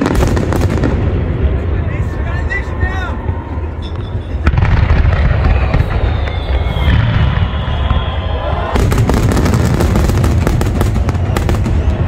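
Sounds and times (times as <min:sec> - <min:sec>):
low booming of fireworks: 0:00.0 - 0:12.0.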